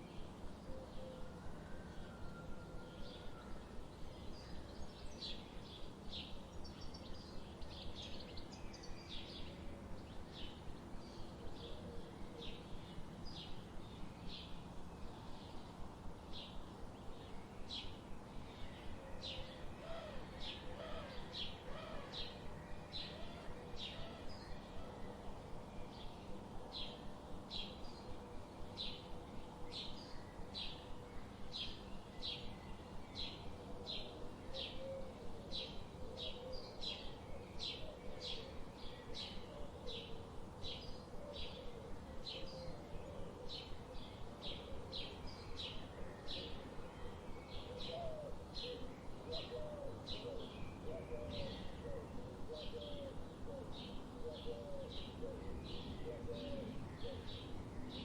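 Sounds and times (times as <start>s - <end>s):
background hiss: 0.0s - 58.0s
small songbirds chirping: 0.0s - 58.0s.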